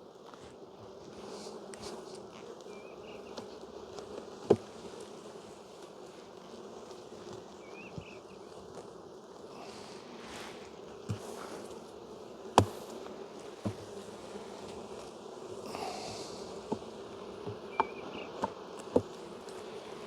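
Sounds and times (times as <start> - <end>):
bees humming: 0.9 - 20.0.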